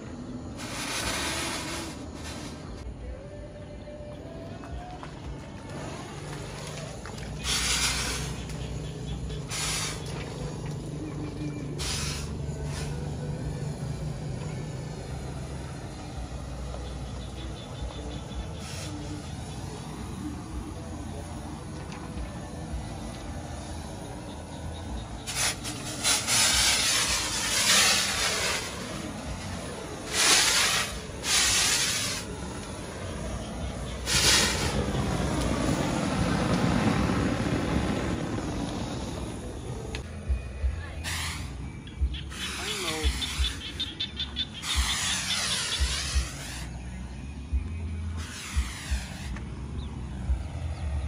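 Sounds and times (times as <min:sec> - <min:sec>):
pressure sprayer hissing: 0:00.0 - 0:02.8, 0:05.7 - 0:37.8, 0:41.0 - 0:47.2, 0:48.1 - 0:50.6
steady low hum: 0:00.0 - 0:51.0.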